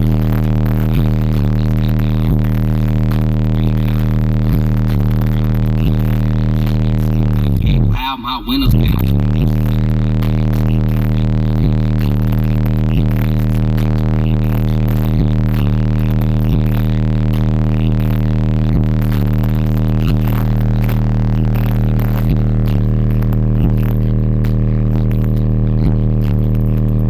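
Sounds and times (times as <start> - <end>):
distorted subwoofer bass note: 0.0 - 27.0.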